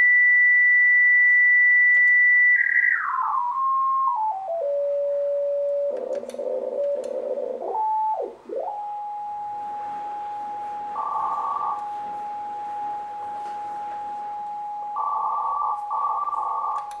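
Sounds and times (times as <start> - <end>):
radio whistling beat note: 0.0 - 17.0.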